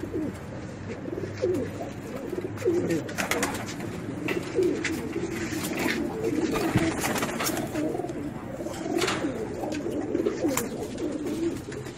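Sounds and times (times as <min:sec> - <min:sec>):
pigeons cooing: 0:00.0 - 0:11.9.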